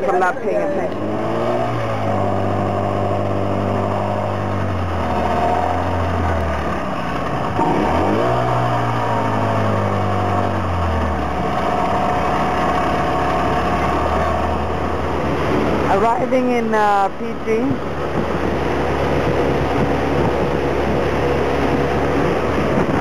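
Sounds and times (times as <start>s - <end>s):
boat outboard engine running: 0.0s - 23.0s.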